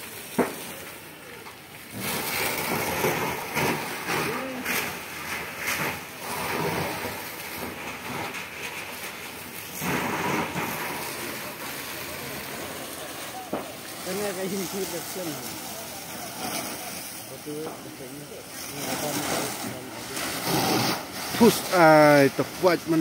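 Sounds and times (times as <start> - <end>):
fire hose spraying water: 0.0 - 23.0
house fire crackling: 0.0 - 23.0
sharp crack: 0.0 - 23.0.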